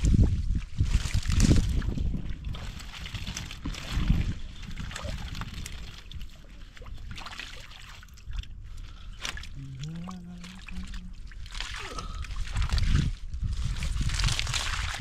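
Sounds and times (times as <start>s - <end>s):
hands sloshing in muddy water: 0.0s - 15.0s.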